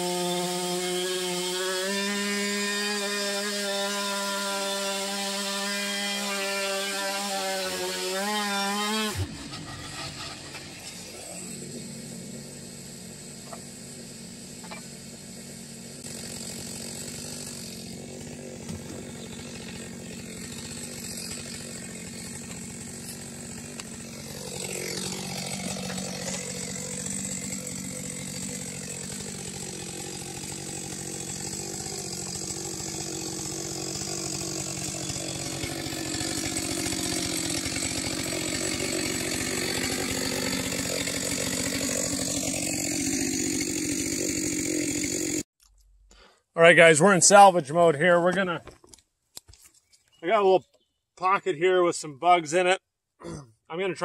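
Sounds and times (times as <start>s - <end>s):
chainsaw engine running: 0.0s - 45.5s.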